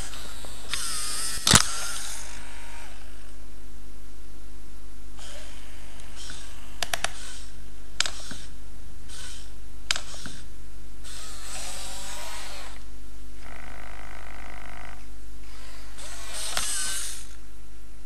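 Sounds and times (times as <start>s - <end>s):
servos whirring: 0.0s - 3.4s, 5.2s - 17.4s
steady low hum: 0.0s - 18.0s.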